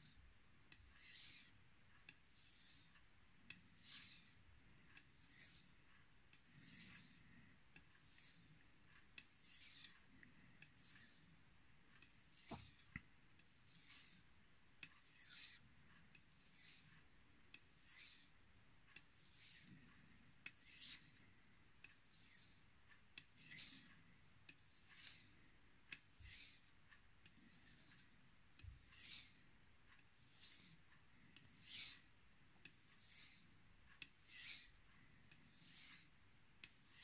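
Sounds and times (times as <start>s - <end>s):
knife rasping on whetstone: 0.0s - 8.6s, 9.2s - 11.4s, 12.0s - 18.3s, 19.0s - 21.2s, 21.9s - 22.6s, 23.2s - 23.9s, 24.5s - 28.0s, 28.6s - 29.4s, 30.0s - 37.0s.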